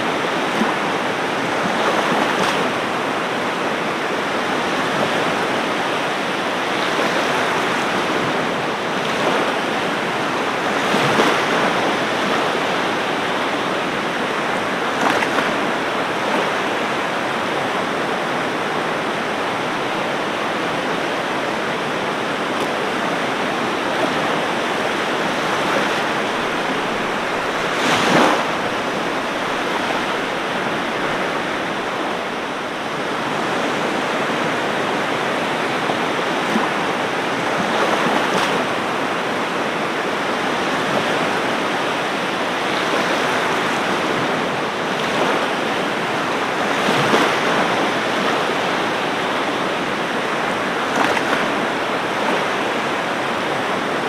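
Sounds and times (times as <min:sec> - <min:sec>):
ocean waves washing on beach: 0:00.0 - 0:54.0.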